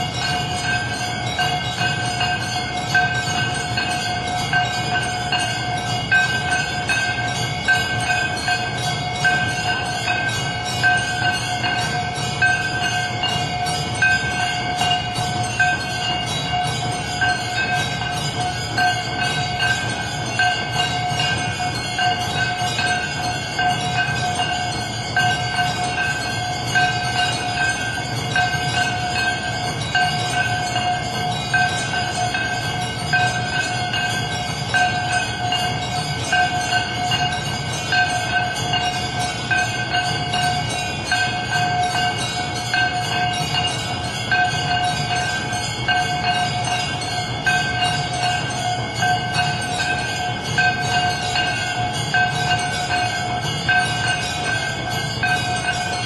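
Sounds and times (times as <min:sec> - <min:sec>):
bells ringing: 0:00.0 - 0:56.0
jingling shimmer: 0:00.0 - 0:56.0.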